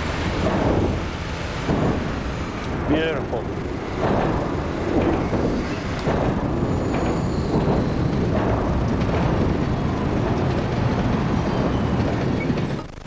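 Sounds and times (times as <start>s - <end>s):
trains crossing steel bridge: 0.0s - 12.9s
road traffic rumble: 0.0s - 13.0s.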